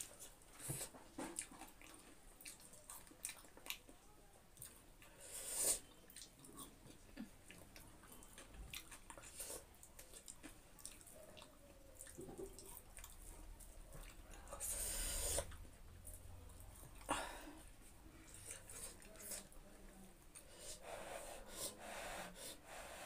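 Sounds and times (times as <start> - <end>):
quiet chewing: 0.0 - 23.0.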